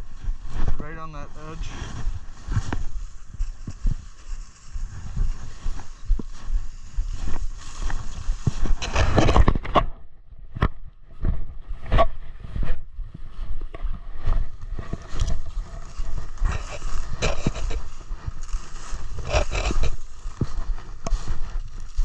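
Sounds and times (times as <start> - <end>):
brush rustling: 0.0 - 9.7, 13.8 - 22.0
footsteps crunching: 0.0 - 22.0.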